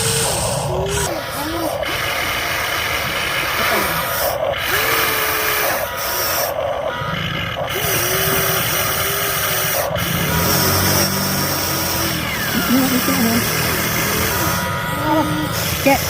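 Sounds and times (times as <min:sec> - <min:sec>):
small electric motors whirring: 0:00.0 - 0:16.0.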